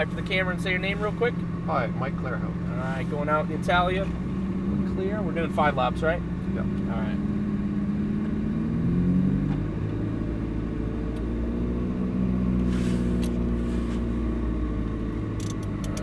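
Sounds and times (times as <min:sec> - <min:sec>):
car engine at low revs: 0:00.0 - 0:16.0.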